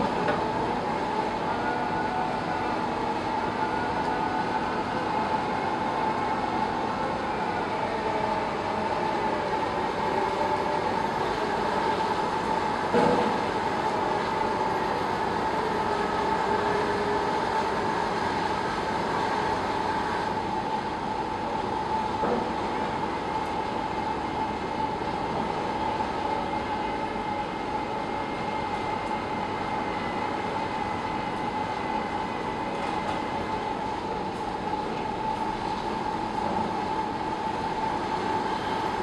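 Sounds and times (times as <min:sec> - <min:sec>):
high machine whine: 0:00.0 - 0:39.0
piling rig machine drone: 0:00.0 - 0:39.0.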